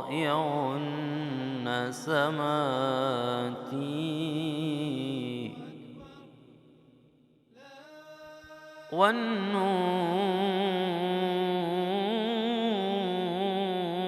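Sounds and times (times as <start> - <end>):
man chanting: 0.0 - 6.5, 7.6 - 14.0.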